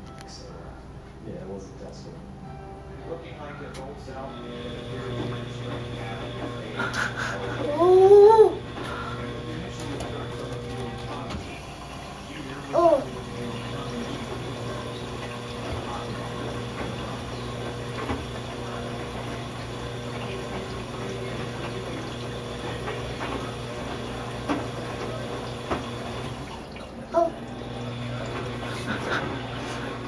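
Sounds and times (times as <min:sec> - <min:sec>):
washing machine motor hum: 0:03.1 - 0:30.0
water swishing in drum: 0:04.4 - 0:30.0.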